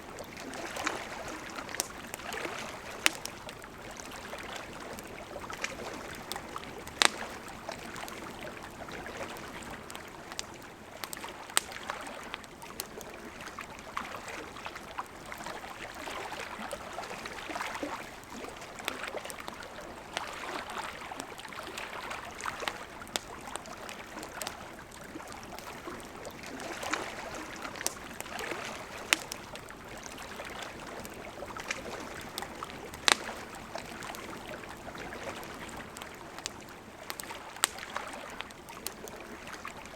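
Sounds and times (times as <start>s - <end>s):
campfire crackling: 0.0s - 39.9s
river running: 0.0s - 39.9s.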